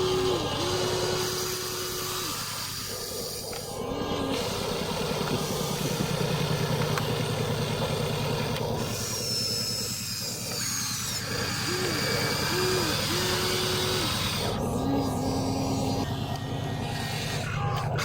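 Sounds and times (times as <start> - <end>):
short humming motor tones: 0.0 - 18.0
toy excavator motors whirring: 0.0 - 18.0.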